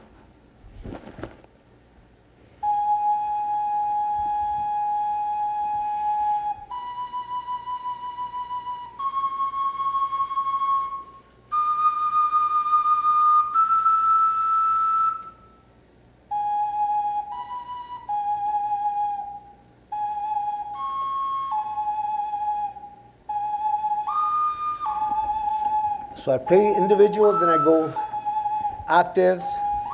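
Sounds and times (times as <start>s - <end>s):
ocarina notes: 2.6s - 15.6s, 16.3s - 29.9s.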